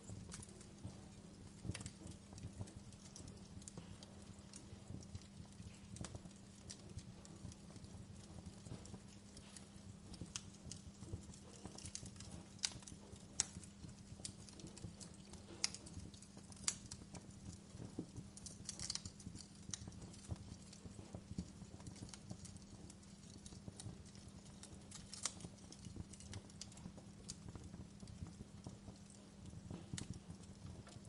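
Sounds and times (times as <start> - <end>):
steady low hum: 0.0 - 31.0
wood fire crackling: 0.0 - 31.0.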